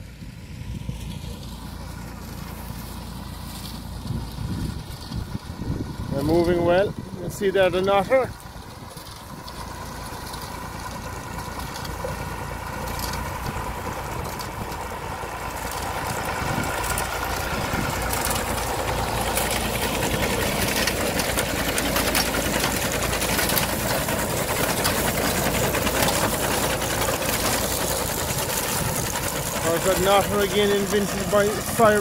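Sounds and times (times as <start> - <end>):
tractor diesel engine: 0.0 - 32.0.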